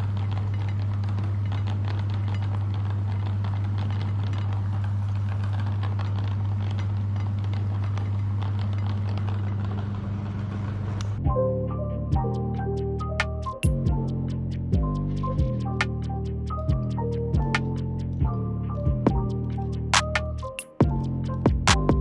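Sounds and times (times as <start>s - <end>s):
crackles and clicks: 0.0s - 11.2s, 12.3s - 22.0s.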